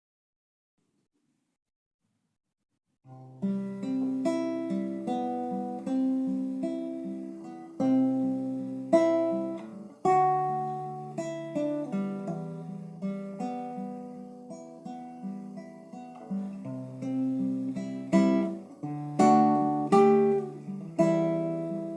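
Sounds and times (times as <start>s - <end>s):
fingerpicked acoustic guitar: 3.1s - 21.9s.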